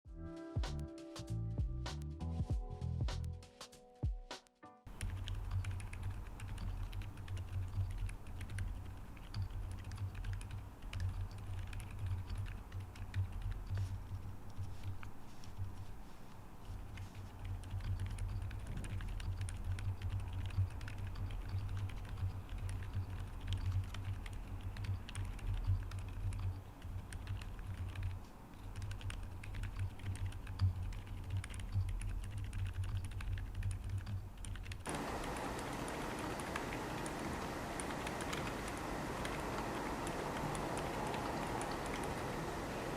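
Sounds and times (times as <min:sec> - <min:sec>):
mechanical keyboard typing: 0:04.9 - 0:15.1, 0:16.9 - 0:42.9.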